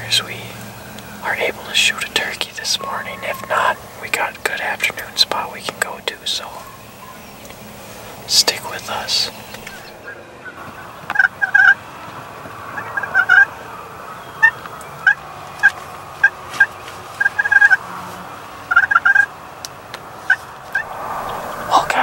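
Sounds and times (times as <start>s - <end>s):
turkeys gobbling: 0.0s - 22.0s.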